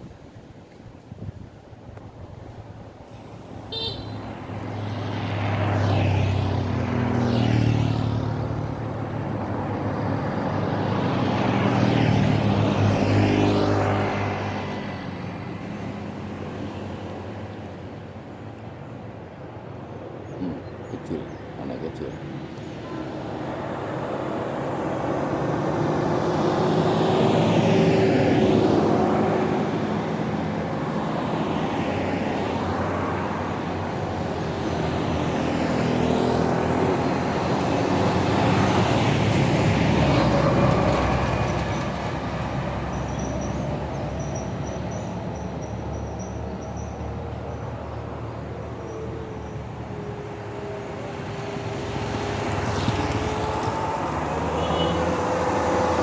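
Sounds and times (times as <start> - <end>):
vehicles driving past: 0.0 - 56.0.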